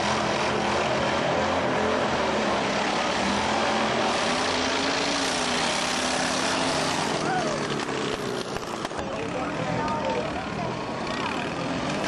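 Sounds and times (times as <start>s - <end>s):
lawnmower engines running: 0.0s - 12.0s.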